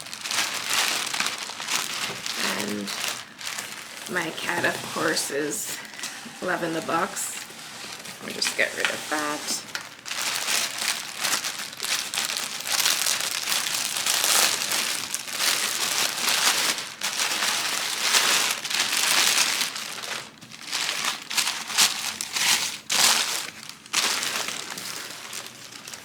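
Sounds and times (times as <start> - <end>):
paper and plastic crinkling: 0.0 - 26.0.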